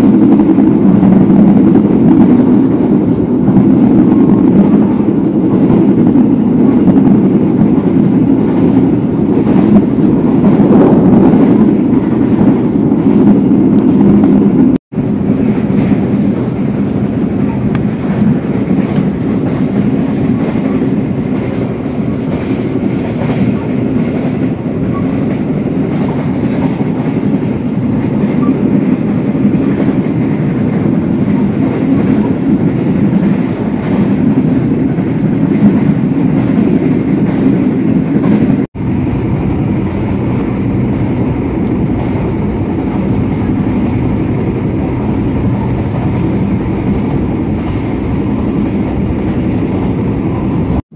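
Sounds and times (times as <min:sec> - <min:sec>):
wheels clicking over rails: 0:00.0 - 0:50.8
train rumble from inside coach: 0:00.0 - 0:50.9.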